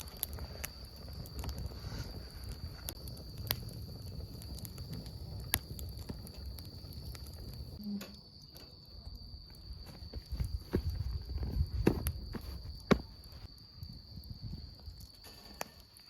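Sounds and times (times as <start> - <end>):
campfire crackling and popping: 0.0 - 16.0
insect trill: 0.0 - 16.0.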